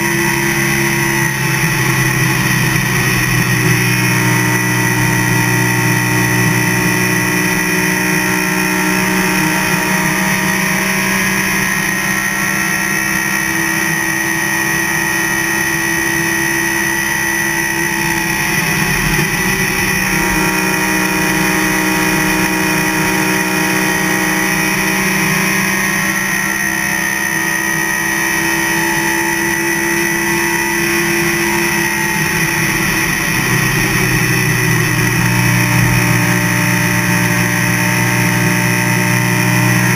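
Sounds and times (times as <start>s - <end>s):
racing car engine at speed: 0.0s - 39.9s.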